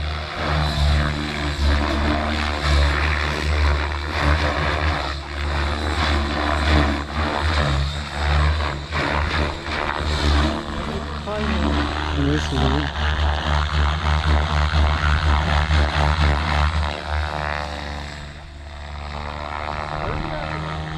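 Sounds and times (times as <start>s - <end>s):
helicopter rotor blades whooshing: 0.0s - 20.9s.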